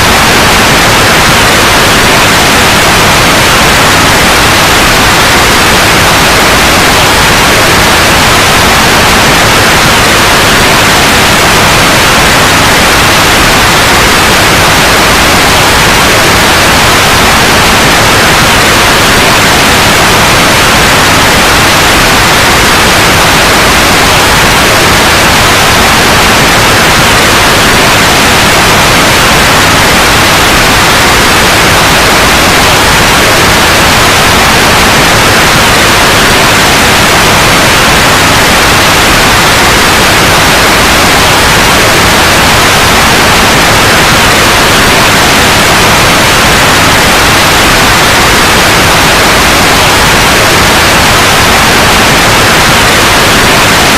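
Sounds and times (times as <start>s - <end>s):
loud steady white noise: 0.0s - 53.9s.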